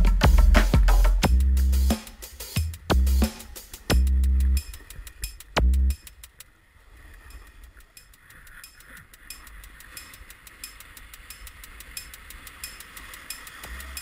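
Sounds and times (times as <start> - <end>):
soft even ticking: 1.2 - 14.0.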